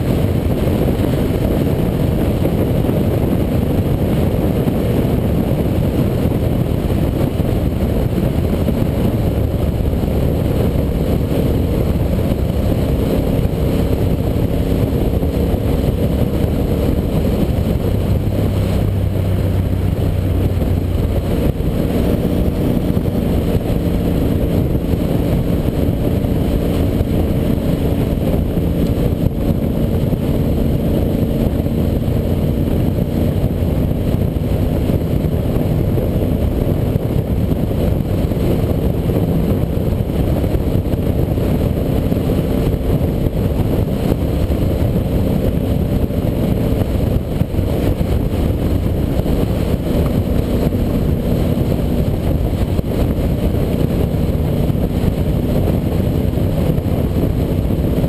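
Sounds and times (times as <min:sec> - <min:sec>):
motorcycle engine cruising: 0:00.0 - 0:58.0
wind rumble on microphone: 0:00.0 - 0:58.0.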